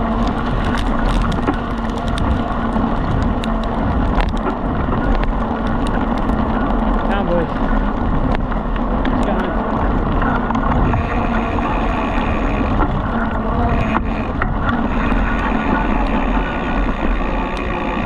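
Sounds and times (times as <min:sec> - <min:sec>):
bicycle tyres rumbling on dirt: 0:00.0 - 0:18.0
wind noise on microphone: 0:00.0 - 0:18.0.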